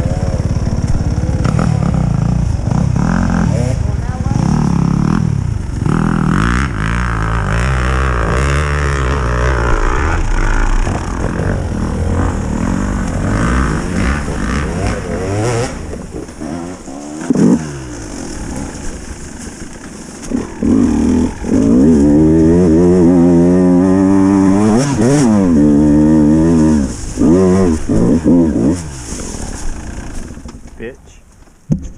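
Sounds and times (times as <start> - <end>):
motorcycle engine revving: 0.0 - 30.8.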